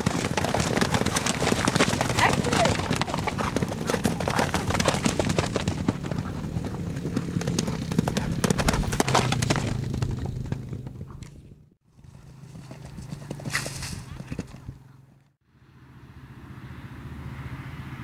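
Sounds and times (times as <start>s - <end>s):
horse hooves clip-clopping: 0.0s - 15.2s.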